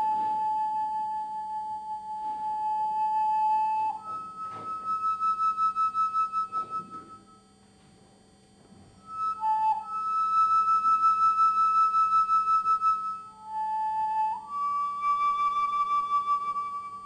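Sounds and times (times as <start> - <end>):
flute long notes with vibrato: 0.0 - 7.5, 9.0 - 17.0.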